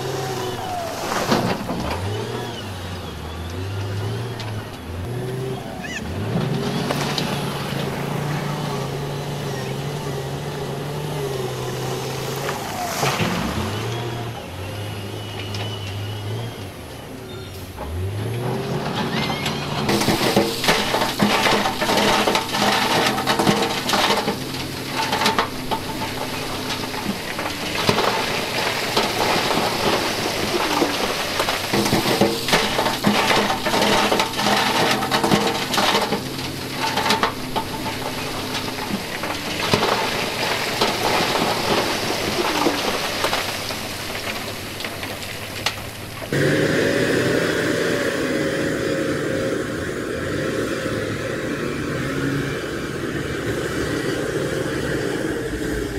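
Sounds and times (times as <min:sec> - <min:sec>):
rocks clattering and sliding: 0:00.0 - 0:16.2, 0:17.8 - 0:46.5
truck engine humming: 0:00.0 - 0:55.9.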